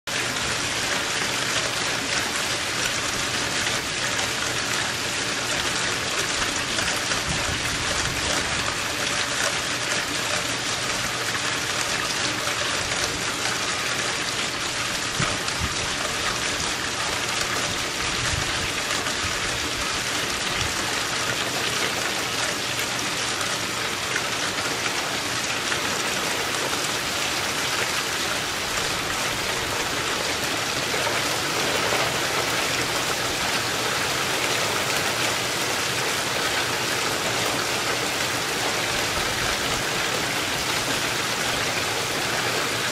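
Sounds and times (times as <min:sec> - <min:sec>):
heavy rain on pool and lawn: 0:00.0 - 0:42.9.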